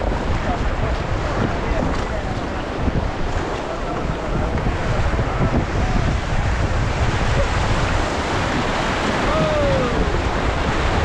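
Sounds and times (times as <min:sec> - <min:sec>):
whitewater rushing: 0:00.0 - 0:11.0
wind buffeting microphone: 0:00.0 - 0:11.0.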